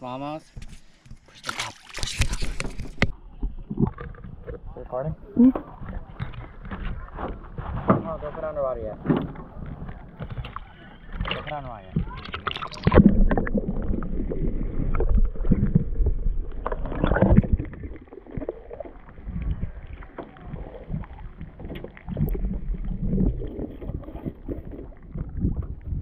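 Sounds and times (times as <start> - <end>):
muffled water sloshing: 0.9 - 26.0.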